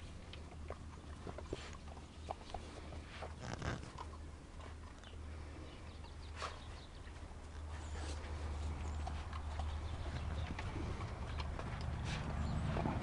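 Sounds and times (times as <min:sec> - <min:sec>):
paws scratching on dirt: 0:00.0 - 0:05.0, 0:06.3 - 0:13.0.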